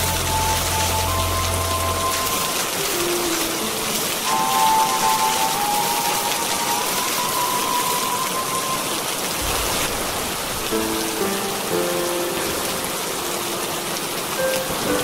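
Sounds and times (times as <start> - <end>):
rain hiss: 0.0 - 15.0
soft sustained music notes: 0.0 - 15.0.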